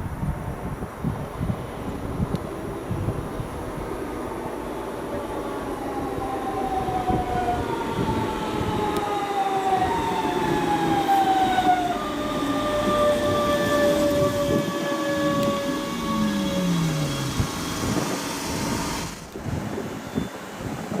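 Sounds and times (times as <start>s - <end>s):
train rumble: 0.0s - 21.0s
electric train converters whining: 1.4s - 19.4s.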